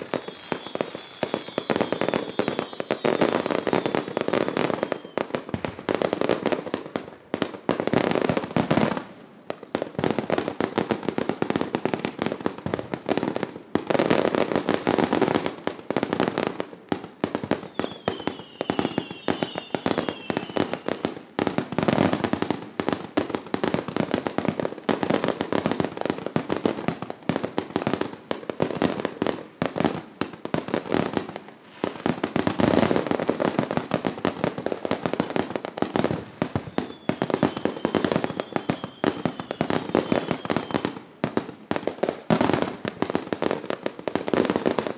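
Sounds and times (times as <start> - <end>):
fireworks crackling and popping: 0.0 - 44.9.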